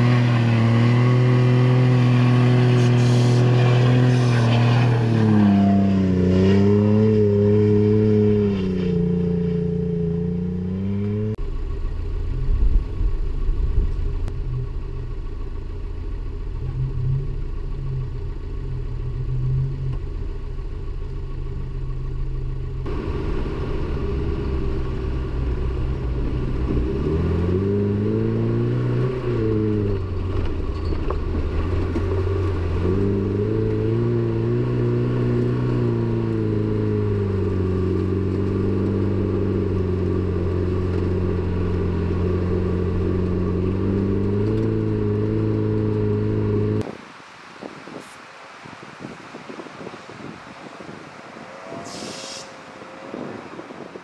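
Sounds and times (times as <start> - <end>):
pickup engine rumbling and revving: 0.0 - 47.0.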